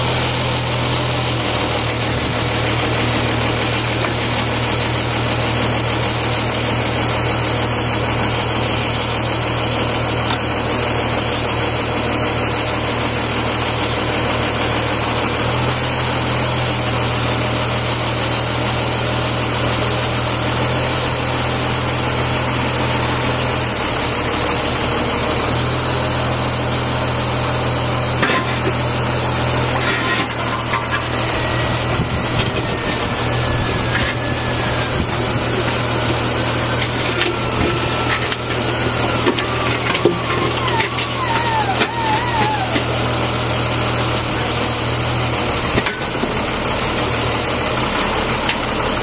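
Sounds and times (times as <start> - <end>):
crane engine running: 0.0 - 49.0.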